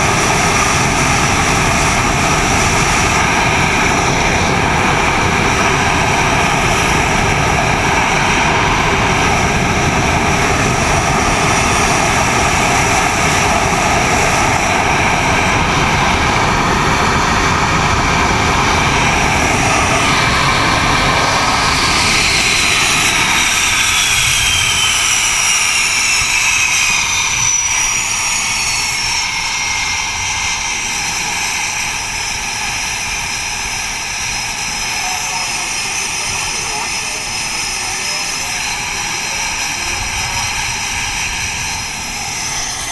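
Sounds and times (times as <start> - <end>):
jet engines roaring: 0.0 - 42.9
jet whine falling in pitch: 0.0 - 42.9.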